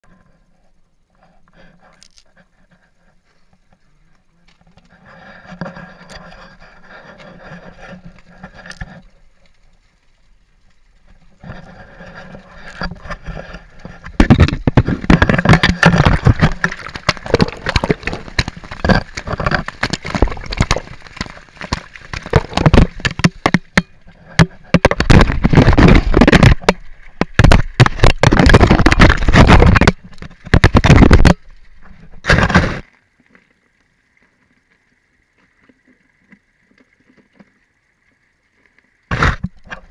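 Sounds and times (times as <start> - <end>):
water crackling on camera housing: 1.2 - 39.9.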